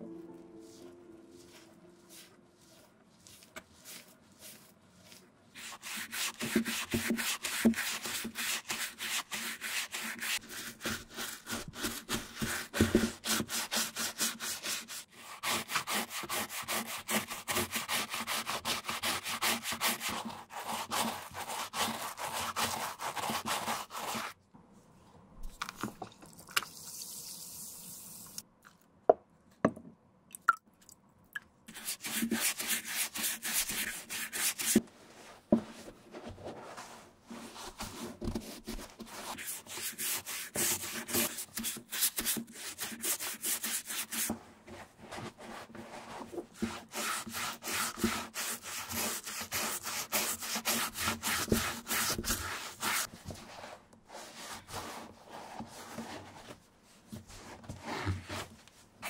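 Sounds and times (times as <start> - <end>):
bristle brush scrubbing shoe: 0.7 - 24.4, 31.7 - 56.6.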